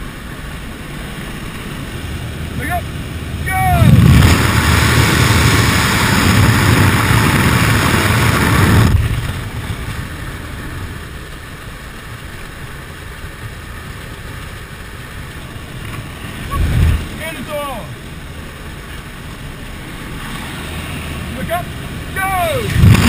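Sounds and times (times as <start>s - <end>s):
aircraft engine drone: 0.0s - 23.0s
rush of wind: 0.0s - 23.0s.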